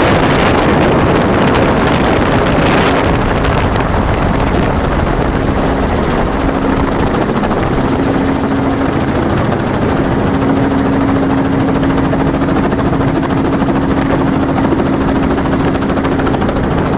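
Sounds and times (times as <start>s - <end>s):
helicopter engine and rotor: 0.0s - 16.9s.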